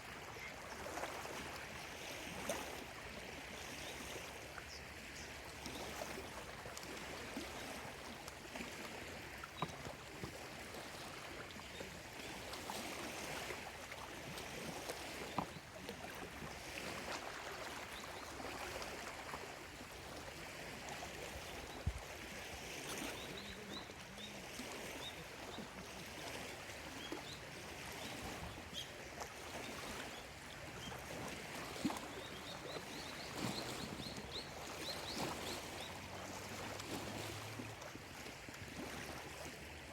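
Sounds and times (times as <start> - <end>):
water splashes: 0.0 - 39.9
waves lapping on shore: 0.0 - 39.9.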